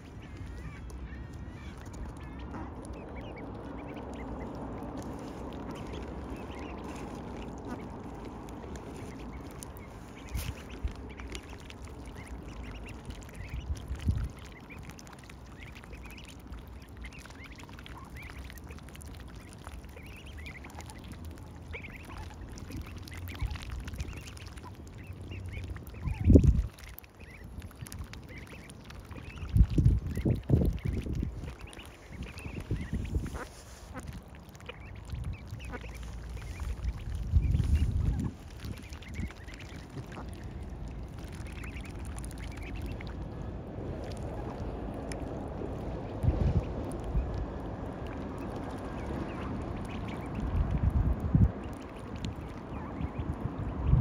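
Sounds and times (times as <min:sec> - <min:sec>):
ducklings squeaking and peeping: 0:00.0 - 0:43.2, 0:44.0 - 0:54.0.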